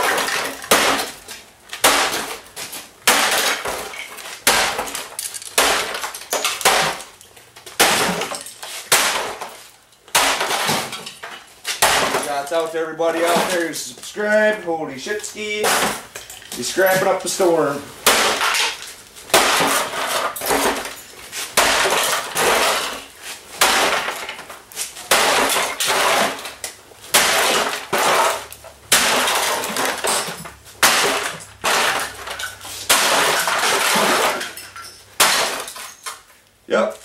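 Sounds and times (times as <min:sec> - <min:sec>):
plastic breaking and clattering: 0:00.0 - 0:14.5, 0:18.0 - 0:36.4.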